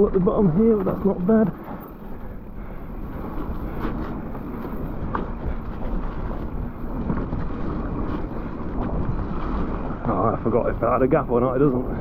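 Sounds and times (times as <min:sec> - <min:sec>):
bike tyres rolling on muddy trail: 0:00.0 - 0:12.0
wind rushing over microphone: 0:00.0 - 0:12.0.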